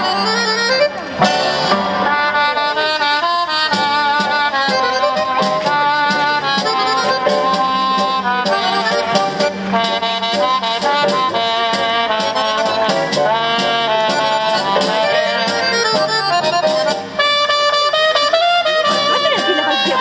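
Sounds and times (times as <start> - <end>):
instrumental music through small speaker: 0.0 - 20.0.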